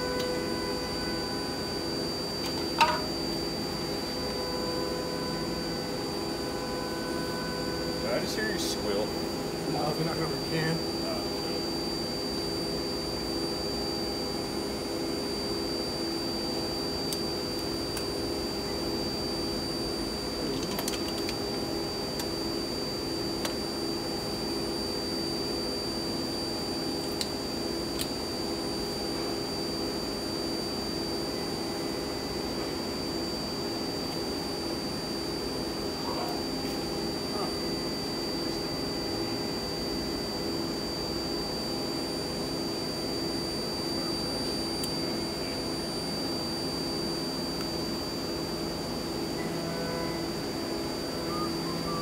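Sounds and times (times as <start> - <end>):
machine drone with high whine: 0.0 - 52.0.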